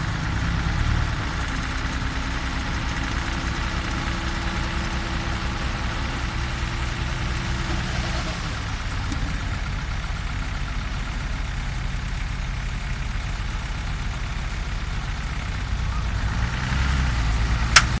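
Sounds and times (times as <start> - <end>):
dump truck diesel idling: 0.0 - 18.0.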